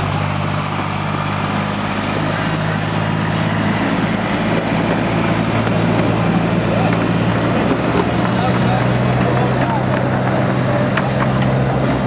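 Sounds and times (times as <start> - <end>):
small train engine running: 0.0 - 12.0.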